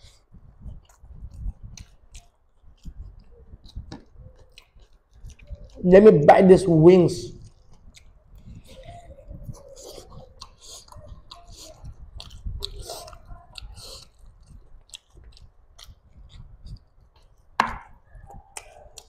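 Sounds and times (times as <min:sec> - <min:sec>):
mouth clicks and smacks chewing: 0:00.0 - 0:05.8, 0:07.4 - 0:19.0.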